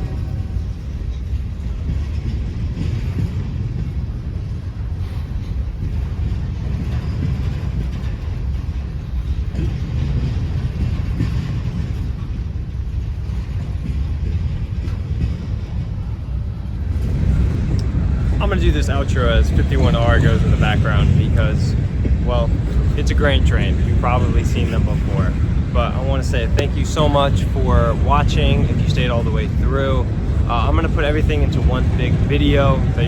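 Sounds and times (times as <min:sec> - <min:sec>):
train cars rumbling on rails: 0:00.0 - 0:33.0.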